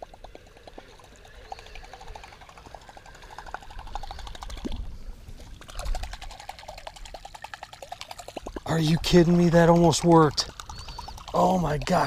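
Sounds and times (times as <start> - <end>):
fishing reel clicking: 0.0 - 4.8, 5.8 - 12.0.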